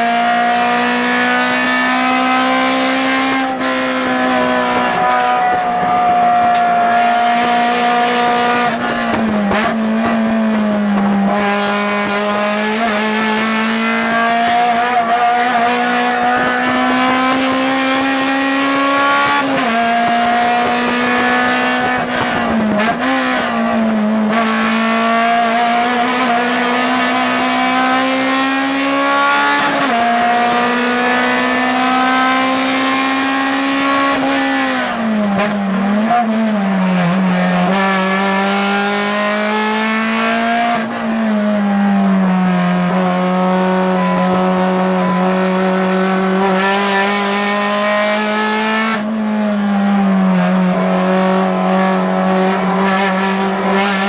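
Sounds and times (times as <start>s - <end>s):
race car engine revving hard: 0.0s - 54.0s.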